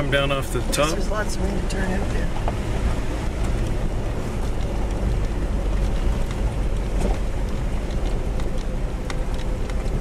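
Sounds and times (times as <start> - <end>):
vehicle engine rumble from inside: 0.0 - 10.0.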